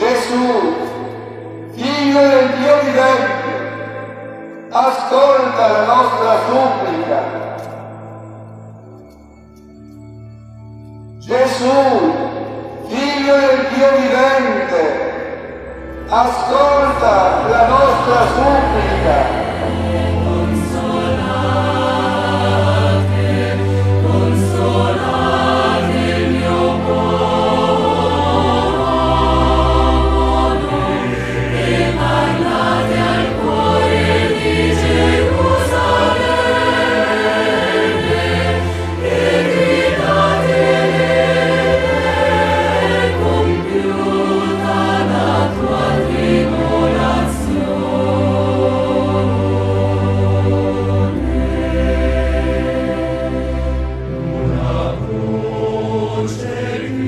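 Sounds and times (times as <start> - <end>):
choir singing sacred music: 0.0 - 57.0.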